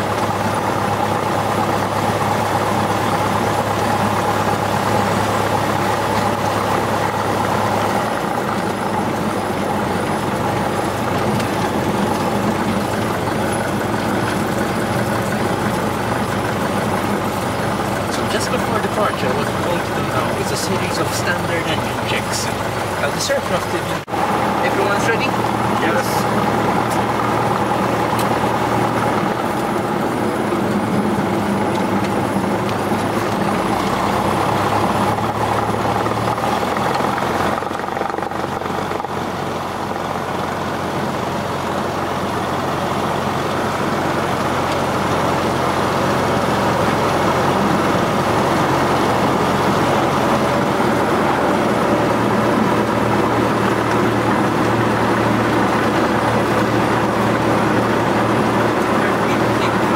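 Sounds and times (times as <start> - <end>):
propeller plane engine from cabin: 0.0 - 59.9.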